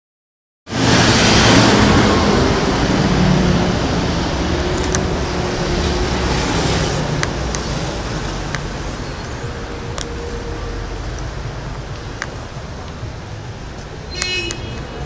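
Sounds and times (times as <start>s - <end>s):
vehicle passing close by: 0.7s - 13.6s.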